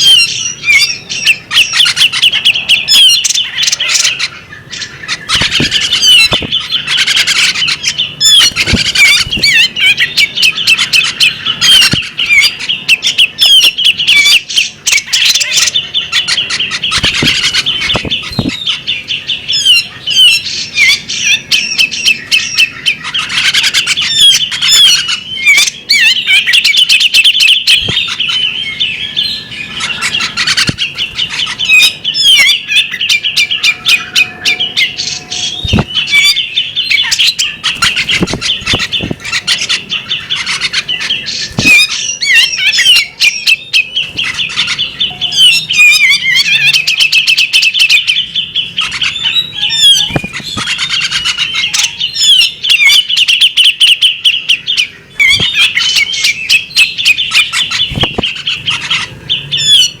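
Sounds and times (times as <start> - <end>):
bird singing chirps and warbles: 0.0 - 60.0.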